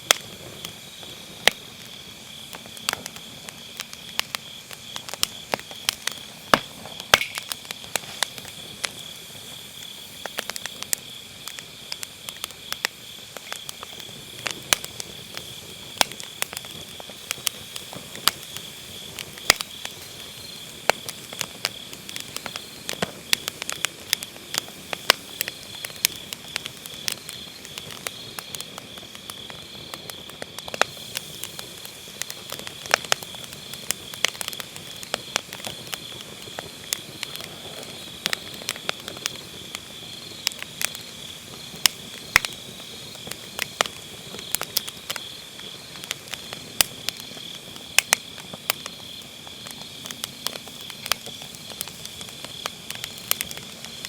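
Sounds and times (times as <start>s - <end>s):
firewood crackling and popping: 0.0s - 54.0s
insects chirring: 0.0s - 54.0s.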